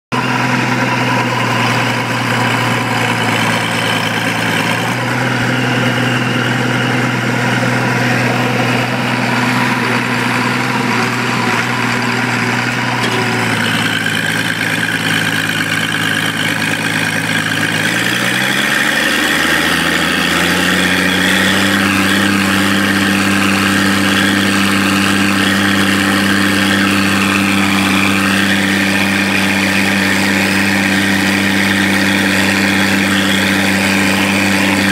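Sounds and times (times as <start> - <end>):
tractor engine under load: 0.1 - 34.9.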